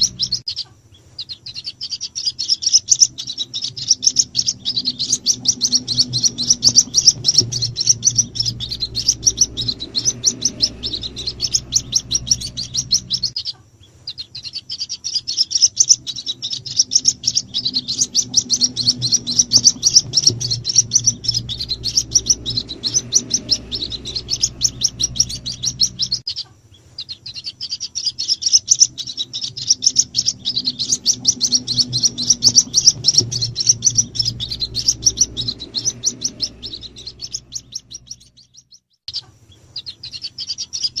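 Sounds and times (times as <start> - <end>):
bird chicks peeping: 0.0 - 41.0.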